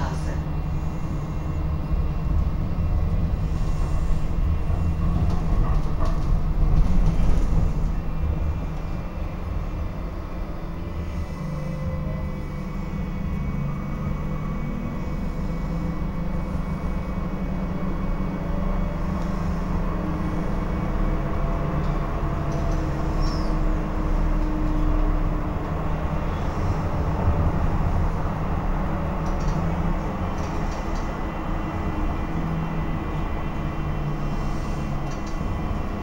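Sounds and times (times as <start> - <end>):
wheels rumbling on track: 0.0 - 36.0.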